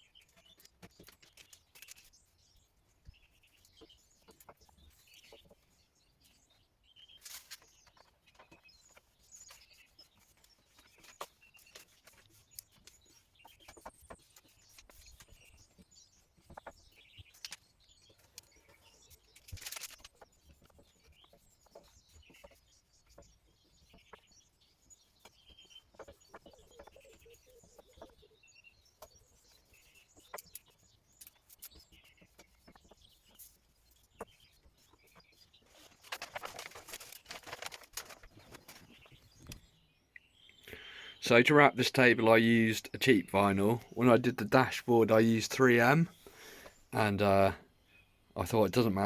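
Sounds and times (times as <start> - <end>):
faint bird chirps: 0.0 - 49.0.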